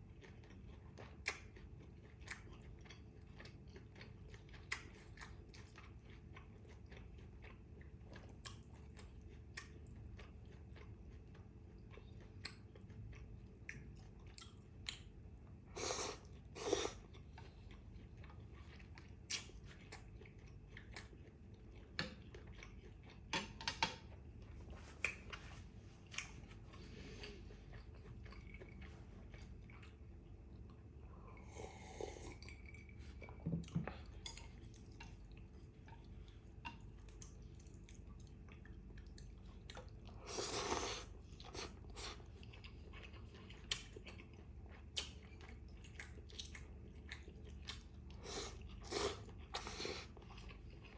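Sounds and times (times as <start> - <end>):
chewing food with wet clicks: 0.0 - 31.5, 32.2 - 50.9.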